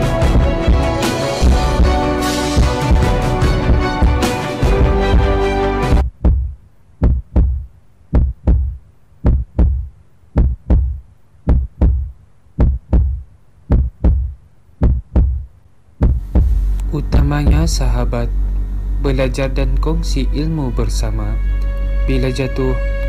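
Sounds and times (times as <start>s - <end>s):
heartbeat thumps: 0.0s - 19.0s.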